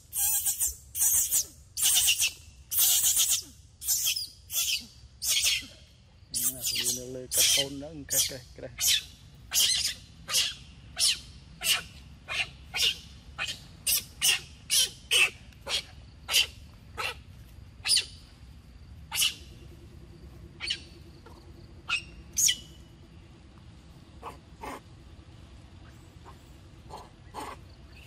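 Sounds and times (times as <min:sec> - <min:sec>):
bird chirping: 0:00.1 - 0:17.2, 0:19.1 - 0:24.8.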